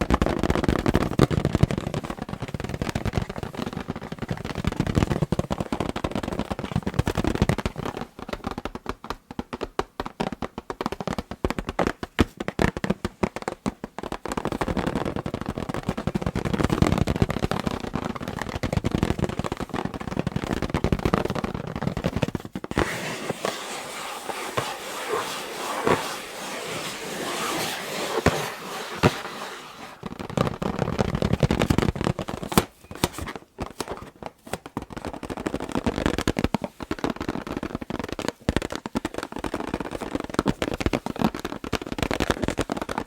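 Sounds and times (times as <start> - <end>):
fingers tapping on a balloon: 0.0 - 43.0
scratching on a balloon: 0.0 - 43.0.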